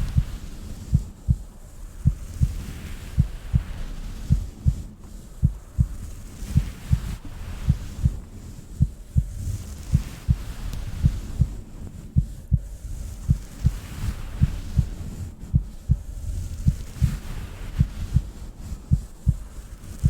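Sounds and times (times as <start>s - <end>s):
heartbeat thumps: 0.0s - 20.0s
steady low rumble: 0.0s - 20.0s.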